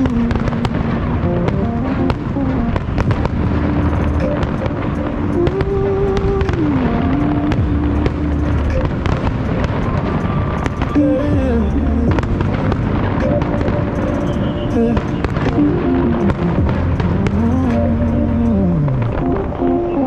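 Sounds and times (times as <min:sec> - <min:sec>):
fireworks bangs and crackles: 0:00.0 - 0:20.0
instrumental music: 0:00.0 - 0:20.0.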